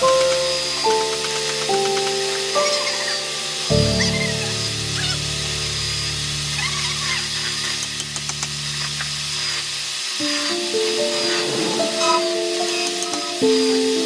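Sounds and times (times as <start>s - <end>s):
background music: 0.0s - 8.6s, 10.2s - 14.0s.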